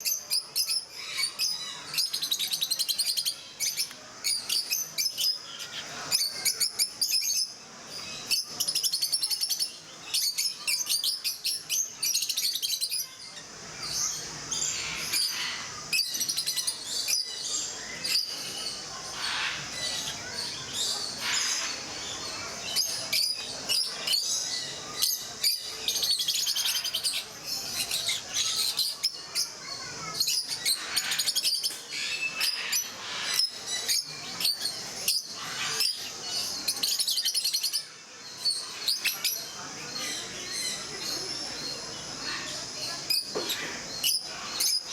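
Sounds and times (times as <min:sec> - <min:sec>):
lovebirds chirping: 0:00.0 - 0:44.9.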